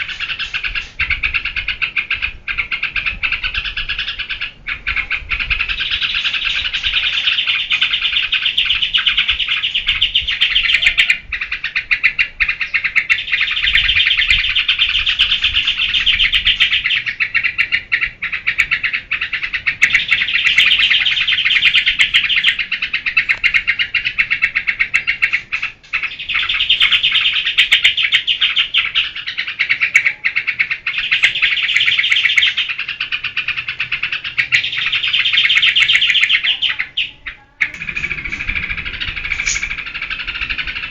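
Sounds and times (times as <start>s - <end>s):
bird singing rapid chattering notes: 0.0s - 40.9s.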